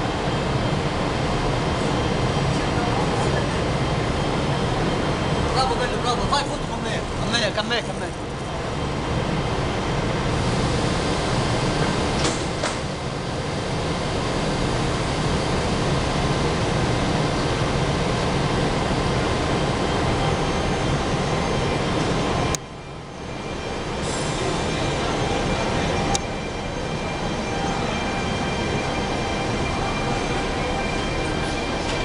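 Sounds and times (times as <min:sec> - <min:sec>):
electric locomotive running: 0:00.0 - 0:32.0.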